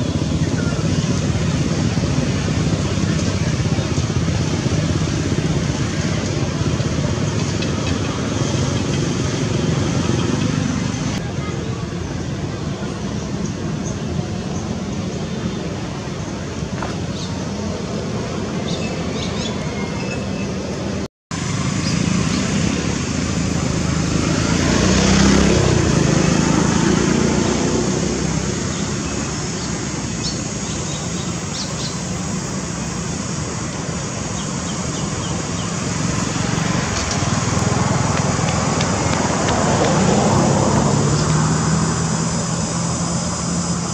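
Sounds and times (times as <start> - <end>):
distant road traffic rumble: 0.0 - 43.9.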